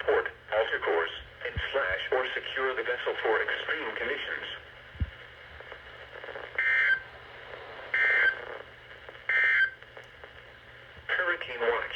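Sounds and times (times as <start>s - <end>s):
faint radio hiss: 0.0s - 11.9s.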